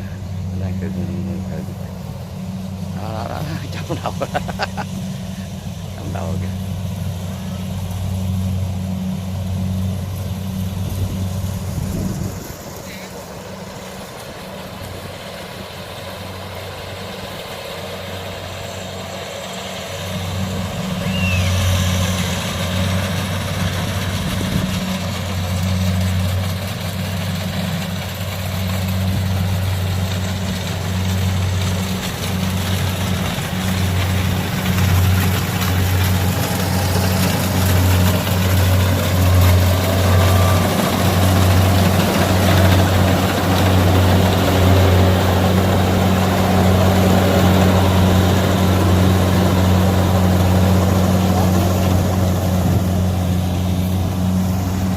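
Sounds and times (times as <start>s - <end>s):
combine harvester diesel engine: 0.0s - 54.9s.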